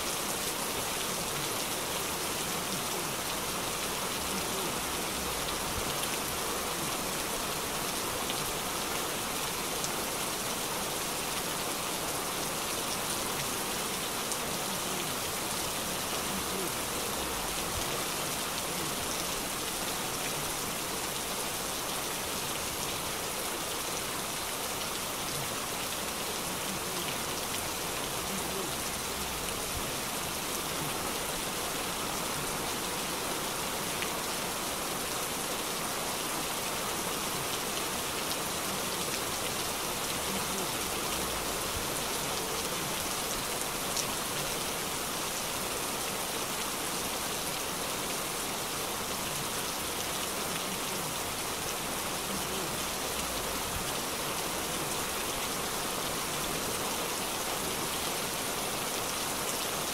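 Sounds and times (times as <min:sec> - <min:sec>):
heavy rain on wet street: 0:00.0 - 0:59.9.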